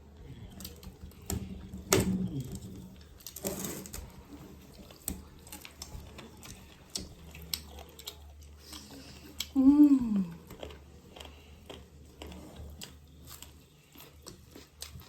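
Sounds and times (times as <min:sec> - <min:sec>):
wet chewing: 0:00.2 - 0:15.0.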